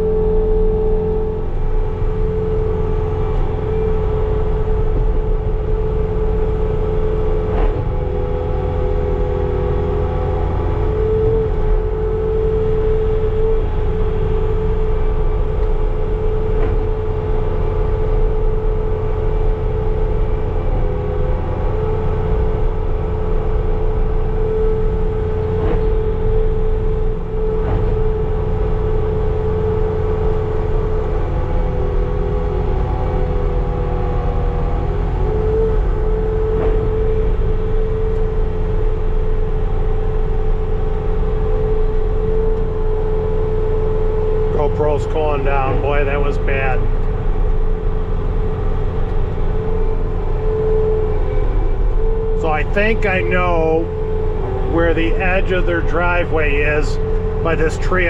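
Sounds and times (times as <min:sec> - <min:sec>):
steady whine: 0:00.0 - 0:58.0
track loader engine rumble: 0:00.0 - 0:58.0.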